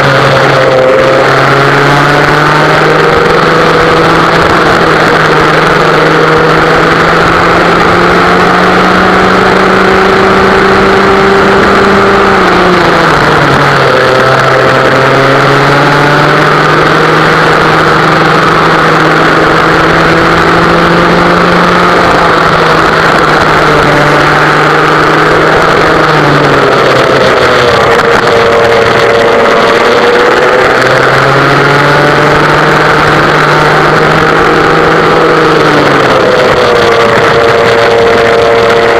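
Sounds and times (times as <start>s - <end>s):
kart engine racing: 0.0s - 38.9s.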